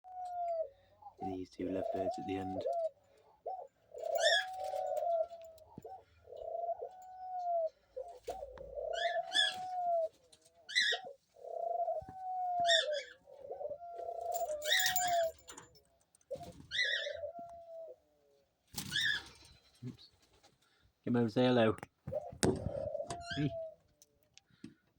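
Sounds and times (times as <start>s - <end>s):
doves cooing: 0.0s - 20.8s, 22.0s - 24.9s.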